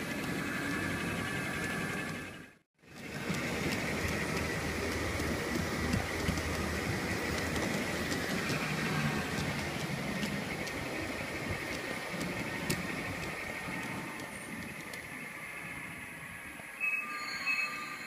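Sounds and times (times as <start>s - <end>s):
sharp track clicks: 0.0s - 15.6s
model train rolling on track: 0.0s - 18.0s.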